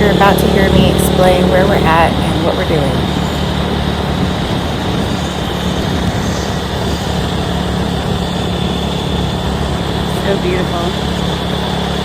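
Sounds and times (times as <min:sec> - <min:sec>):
motorcycle engine running: 0:00.0 - 0:12.0
wind noise: 0:00.0 - 0:12.0.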